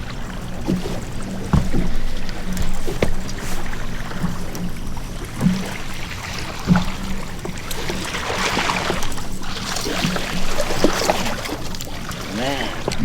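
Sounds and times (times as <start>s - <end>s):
boat motor humming: 0.0s - 13.0s
knocks and splashes against hull: 0.0s - 13.0s
water wash: 0.0s - 13.0s
wind: 0.0s - 13.0s.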